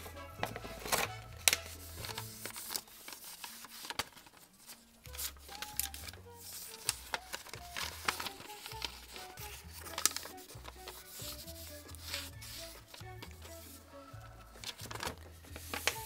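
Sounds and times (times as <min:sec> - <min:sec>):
background music with bass line: 0:00.0 - 0:02.5, 0:05.1 - 0:16.0
paper crinkling and crackling: 0:00.0 - 0:16.0.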